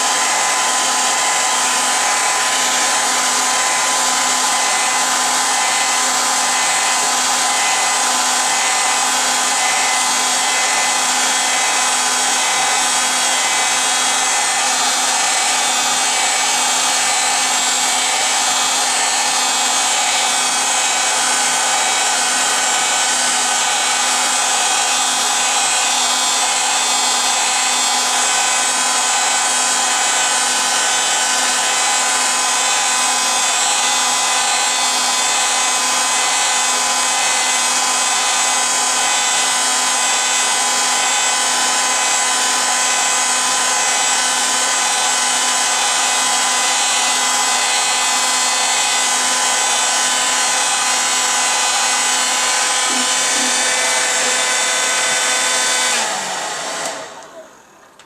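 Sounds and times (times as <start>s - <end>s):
electric blower motor hiss: 0.0s - 58.0s.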